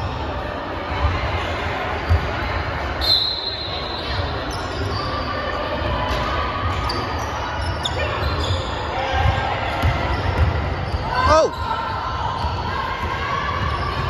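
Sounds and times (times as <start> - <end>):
voices echoing in a gym hall: 0.0 - 14.0
sneaker squeaks: 2.0 - 2.3, 3.0 - 14.0.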